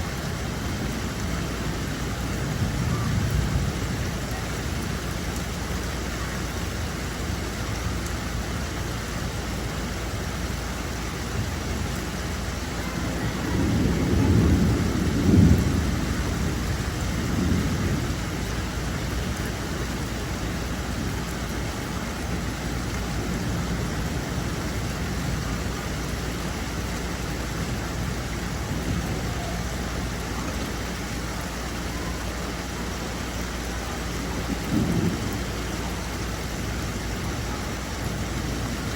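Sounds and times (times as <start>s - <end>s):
steady rain falling: 0.0s - 38.9s
thunder rumbling: 0.0s - 38.9s.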